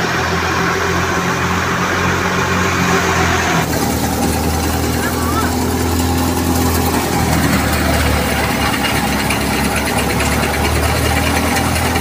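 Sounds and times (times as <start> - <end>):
chaff blowing: 0.0 - 12.0
threshing machine running: 0.0 - 12.0
tractor engine humming: 0.0 - 12.0.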